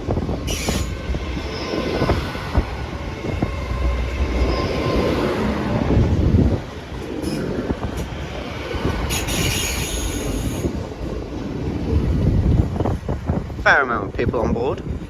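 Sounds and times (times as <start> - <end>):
faint train whine: 0.0 - 15.0
train engine and wheels rumbling: 0.0 - 15.0.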